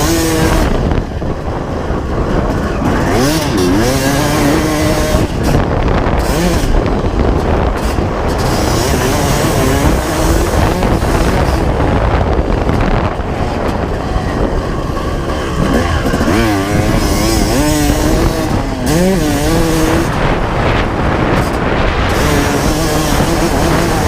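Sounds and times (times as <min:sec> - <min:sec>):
steady rush of noise: 0:00.0 - 0:24.0
two-stroke engine revving: 0:00.0 - 0:24.0.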